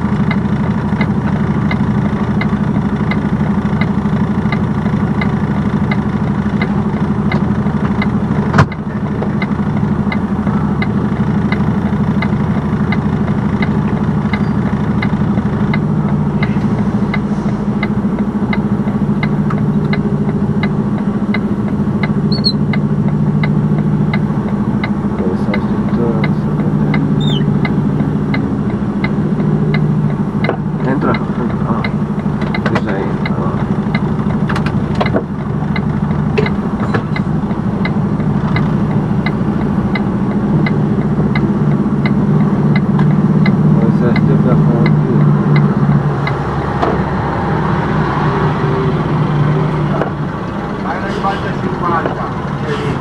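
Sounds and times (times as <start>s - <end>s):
diesel engine idling: 0.0s - 53.0s
light regular ticking: 0.1s - 46.6s.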